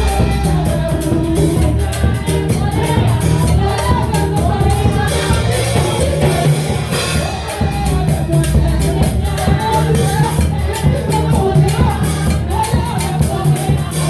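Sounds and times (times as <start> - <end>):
gospel singing over a band: 0.0 - 14.0.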